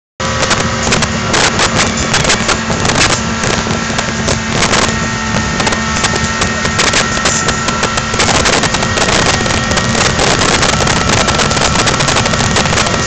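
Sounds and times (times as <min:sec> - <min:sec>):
outboard motor running: 0:00.2 - 0:13.0
water rushing in wake: 0:00.2 - 0:13.0
wind buffeting microphone: 0:00.2 - 0:13.0.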